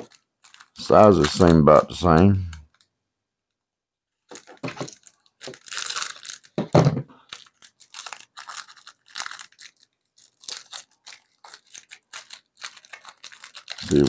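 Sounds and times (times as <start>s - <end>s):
plastic packaging crinkling: 0.0s - 2.9s, 4.2s - 14.0s.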